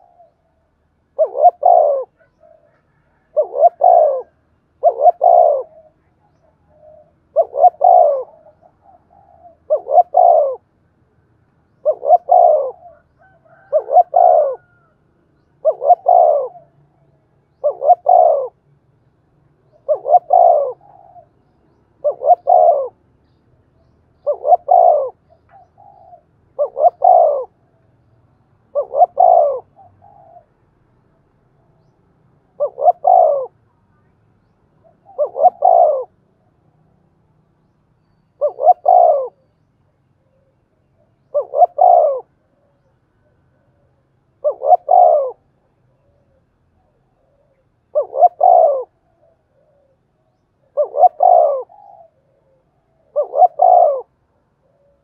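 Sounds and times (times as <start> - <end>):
dove cooing: 0.0 - 10.8, 11.7 - 18.7, 19.5 - 33.7, 34.8 - 36.8, 37.6 - 55.0.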